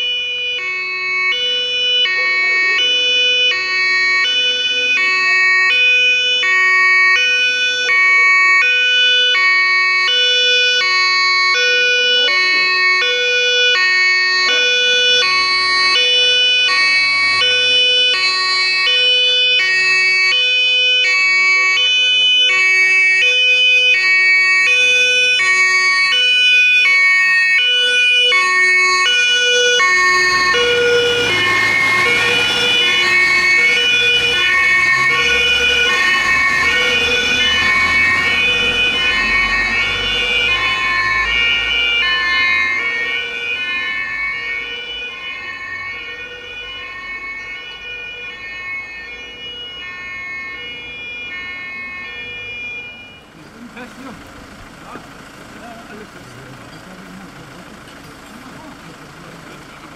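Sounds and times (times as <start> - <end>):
fire engine two-tone siren: 0.0 - 59.9
vehicle engine and road noise: 0.0 - 59.9.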